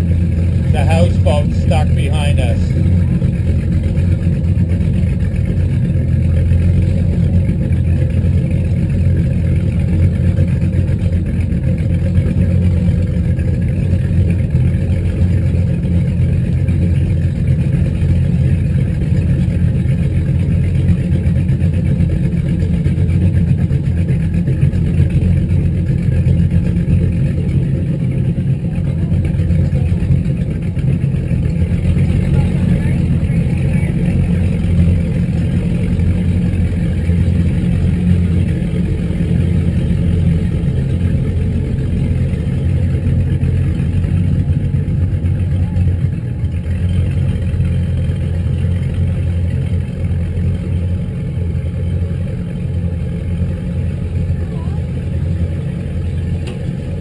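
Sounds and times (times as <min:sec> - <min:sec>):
boat engines idling: 0:00.0 - 0:57.0.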